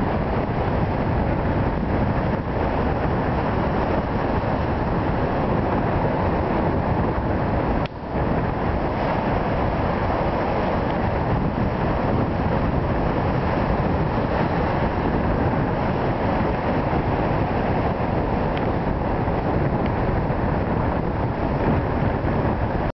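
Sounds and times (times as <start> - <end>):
surf crashing over rocks: 0.0 - 22.9
wind buffeting microphone: 0.0 - 22.9.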